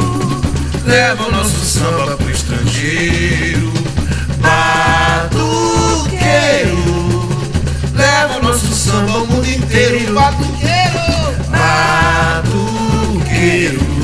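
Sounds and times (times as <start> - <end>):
deep bass drums beating: 0.0 - 14.0
person singing: 0.0 - 14.0
samba percussion group: 0.0 - 14.0.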